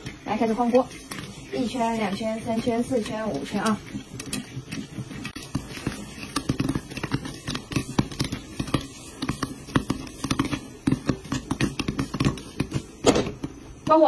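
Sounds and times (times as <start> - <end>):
popcorn clicking against pan and lid: 0.0 - 14.0.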